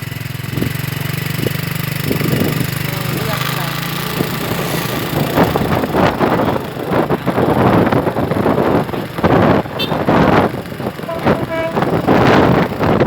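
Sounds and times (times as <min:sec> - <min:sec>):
wind buffeting microphone: 0:00.4 - 0:13.0.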